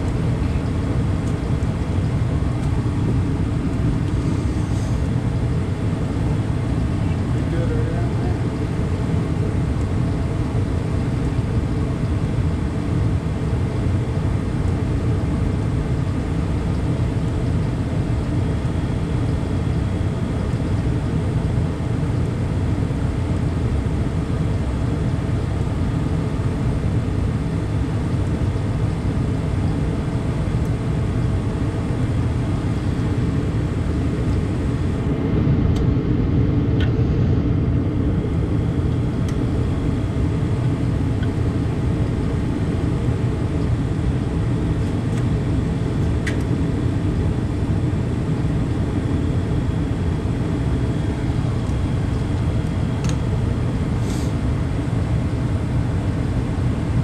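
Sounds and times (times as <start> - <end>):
gas furnace rumbling: 0.0 - 57.0.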